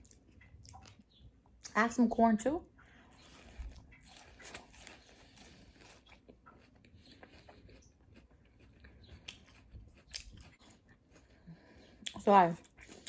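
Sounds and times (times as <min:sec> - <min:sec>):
faint chewing with mouth clicks: 0:00.0 - 0:01.8, 0:02.7 - 0:13.0.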